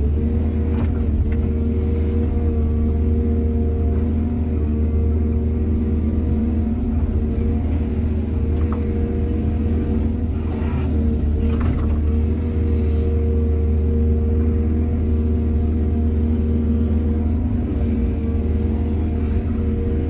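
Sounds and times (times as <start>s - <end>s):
heavy diesel engine rumbling: 0.0s - 20.0s.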